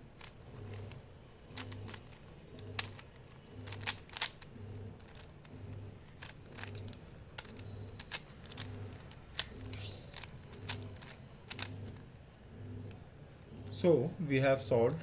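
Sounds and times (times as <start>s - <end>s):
faint pulsing low hum: 0.0s - 15.0s
puzzle cube clicking: 0.2s - 12.2s.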